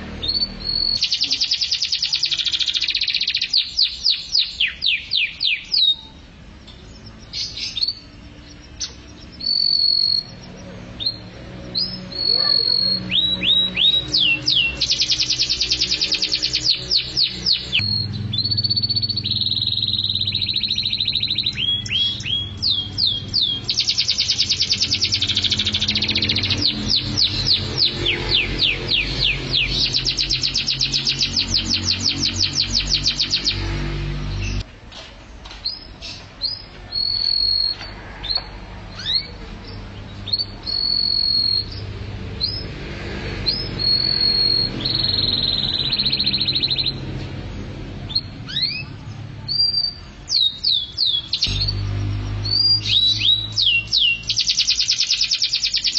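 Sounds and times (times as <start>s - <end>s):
canary singing trills: 0.0s - 34.7s, 35.6s - 55.9s.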